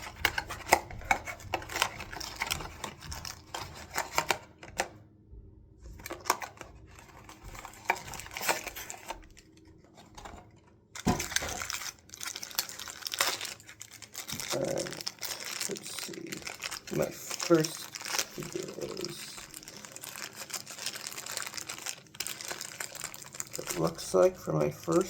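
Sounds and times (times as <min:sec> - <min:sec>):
packaging crinkling and tearing: 0:00.0 - 0:04.9, 0:06.0 - 0:25.0.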